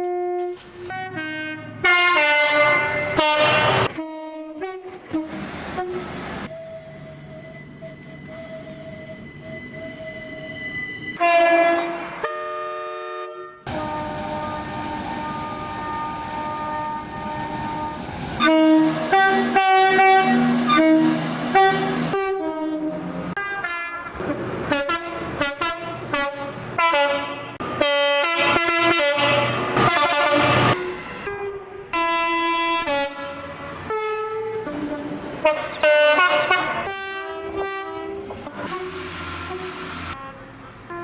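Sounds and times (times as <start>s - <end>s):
train horn blasts: 0.0s - 6.8s, 11.2s - 41.0s.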